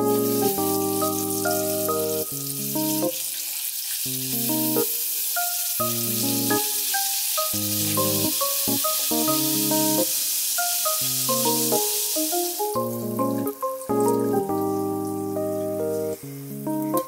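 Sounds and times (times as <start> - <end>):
background music: 0.0 - 3.2, 4.3 - 17.0
food sizzling in oil: 0.0 - 17.0.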